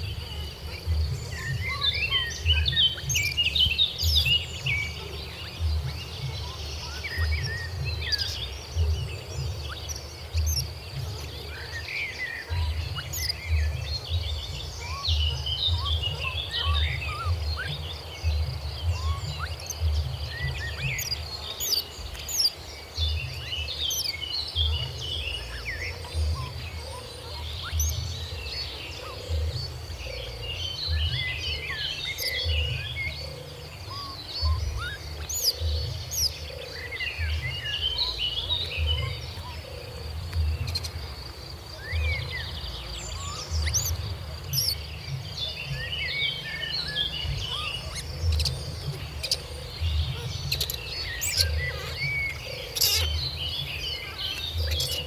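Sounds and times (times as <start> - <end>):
birds chirping and calling: 0.0 - 55.0.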